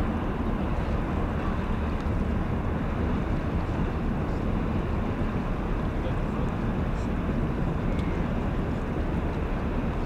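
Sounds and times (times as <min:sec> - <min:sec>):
ship engine low drone: 0:00.0 - 0:10.0
wind rumbling on microphone: 0:00.0 - 0:10.0.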